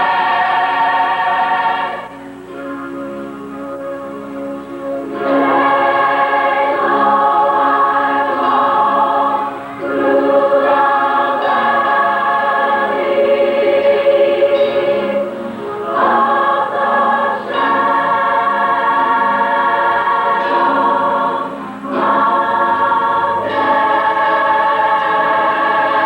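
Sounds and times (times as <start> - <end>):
choir singing: 0.0 - 2.9, 5.0 - 26.0.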